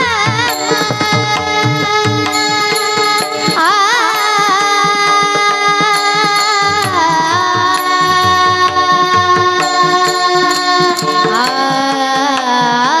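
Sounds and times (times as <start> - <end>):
hand drum strokes: 0.0 - 13.0
person singing: 0.0 - 13.0.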